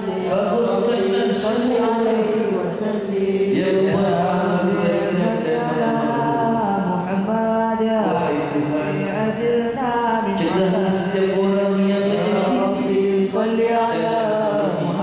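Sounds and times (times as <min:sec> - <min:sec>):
men chanting unaccompanied: 0:00.0 - 0:15.0.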